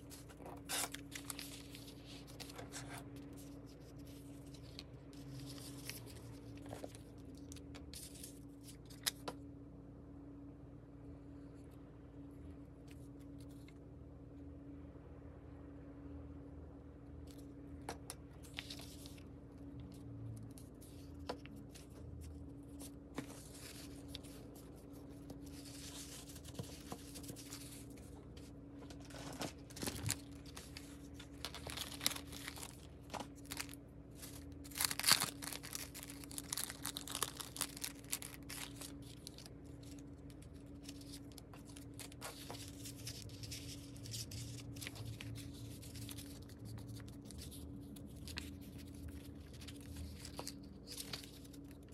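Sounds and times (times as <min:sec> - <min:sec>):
paper rustling and crinkling: 0:00.0 - 0:09.4, 0:17.3 - 0:51.9.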